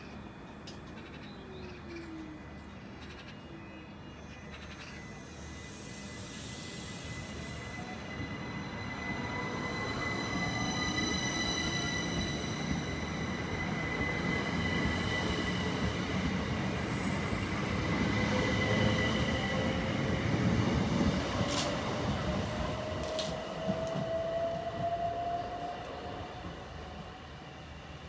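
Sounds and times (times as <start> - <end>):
train wheels rumbling on rails: 4.4 - 28.0.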